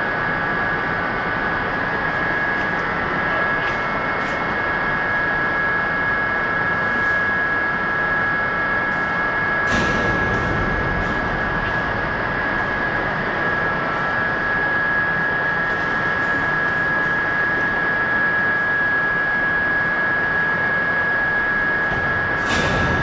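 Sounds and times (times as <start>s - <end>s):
industrial machinery whining: 0.0s - 23.0s.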